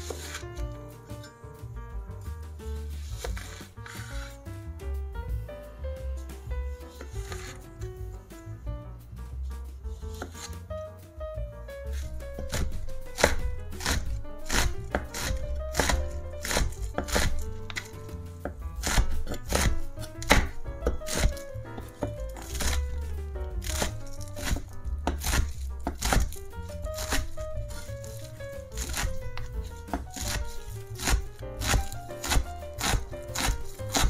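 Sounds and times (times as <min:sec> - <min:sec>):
knife chopping on cutting board: 0:00.0 - 0:01.3, 0:02.5 - 0:04.4, 0:06.1 - 0:07.9, 0:09.9 - 0:10.7, 0:11.8 - 0:34.0
soft background music: 0:00.0 - 0:34.0.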